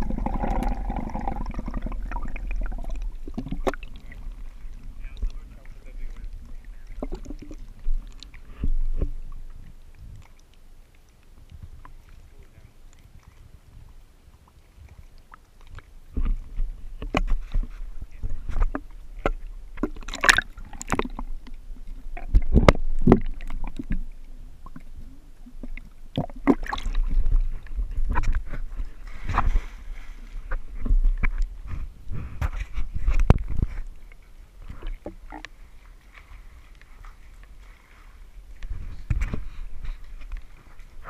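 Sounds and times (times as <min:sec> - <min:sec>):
pool water sloshing and gurgling: 0:00.0 - 0:41.0.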